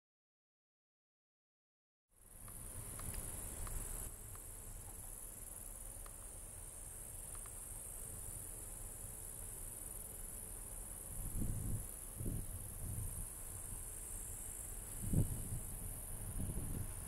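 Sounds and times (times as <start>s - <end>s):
crickets chirring: 2.2s - 17.0s
distant train rumble: 2.2s - 17.0s.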